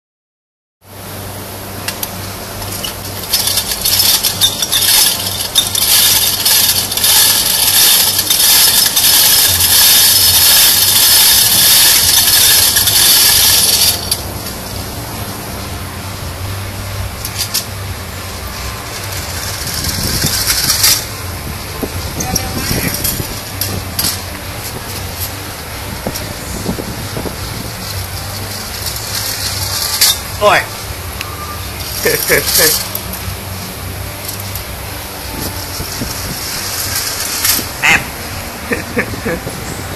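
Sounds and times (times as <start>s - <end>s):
wind-up toy metallic whirring rattle: 2.6s - 14.5s, 18.4s - 30.9s, 31.7s - 39.4s.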